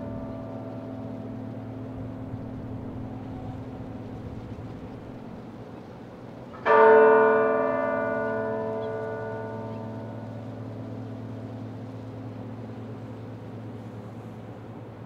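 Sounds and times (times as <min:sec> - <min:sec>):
tower bell tolling: 0:00.0 - 0:05.4, 0:06.5 - 0:13.8
low hum: 0:00.0 - 0:15.0.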